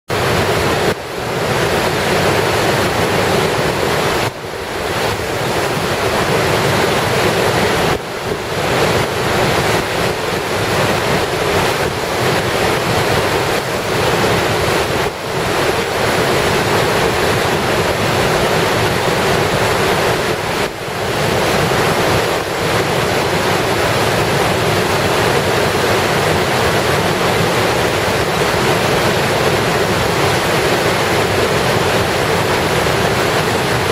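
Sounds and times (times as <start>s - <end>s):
floodwater rushing over weir: 0.1s - 33.9s.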